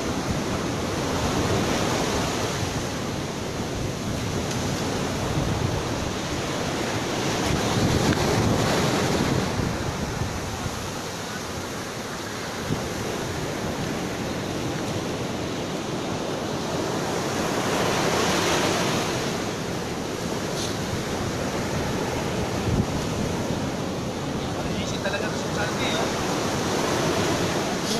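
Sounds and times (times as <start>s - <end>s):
wind buffeting microphone: 0.0s - 15.6s, 16.2s - 27.9s
surf washing up the beach: 0.0s - 27.9s.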